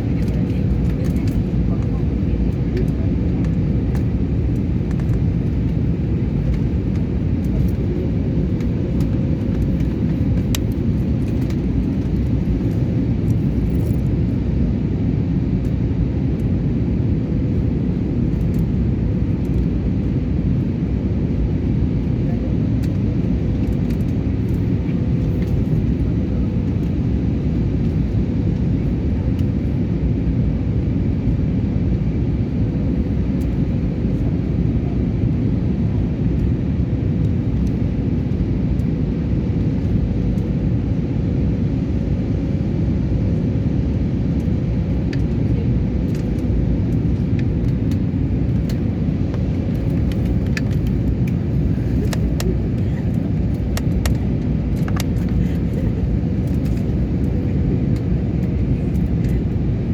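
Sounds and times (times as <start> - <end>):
airliner engines rumbling: 0.0 - 59.9.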